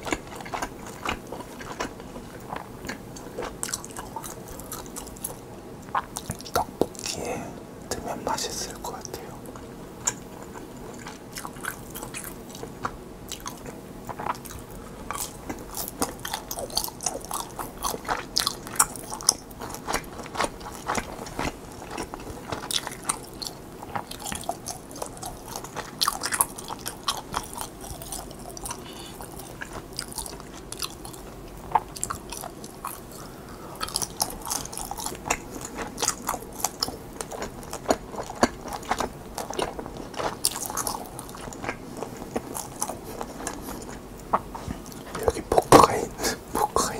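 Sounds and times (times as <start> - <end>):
person chewing: 0.0 - 7.6, 8.3 - 46.9.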